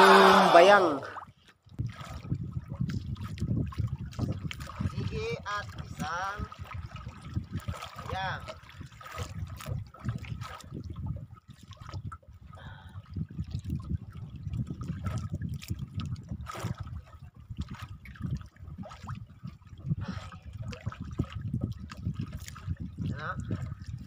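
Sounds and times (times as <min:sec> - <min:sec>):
water dripping and splashing: 0:01.1 - 0:24.0.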